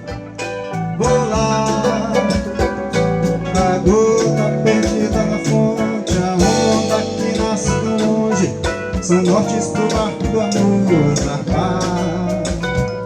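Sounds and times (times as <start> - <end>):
guitar: 0.0 - 13.0
steady drum beat: 0.0 - 13.0.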